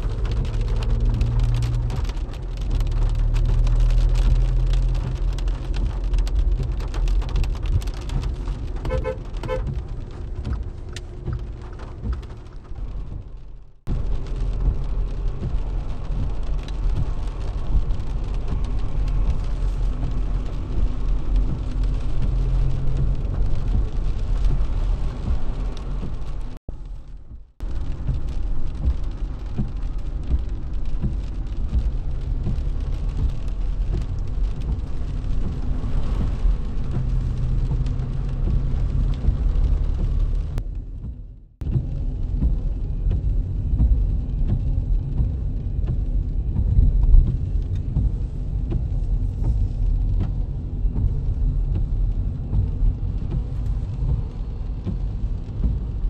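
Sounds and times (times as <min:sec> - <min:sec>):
car engine running: 0:00.0 - 0:56.0
rain on car: 0:00.0 - 0:56.0
tyres rumbling on wet road: 0:00.0 - 0:56.0.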